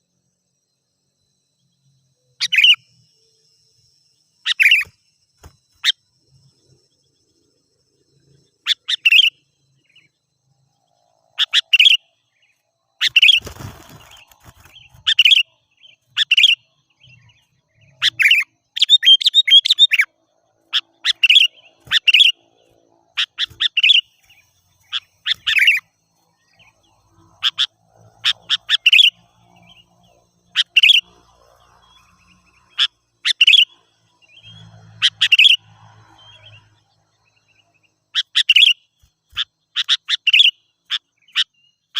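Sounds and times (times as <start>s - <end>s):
bird chirping: 0.6s - 41.9s.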